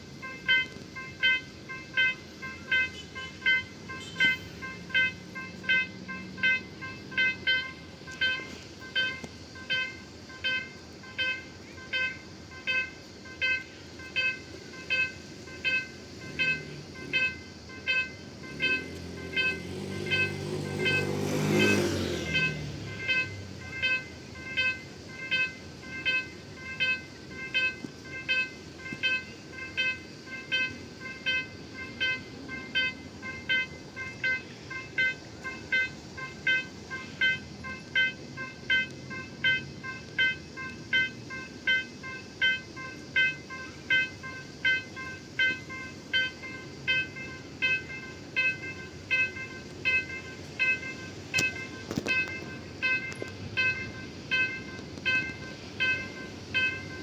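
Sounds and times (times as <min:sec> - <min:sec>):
level-crossing warning bell ringing: 0:00.0 - 0:57.0.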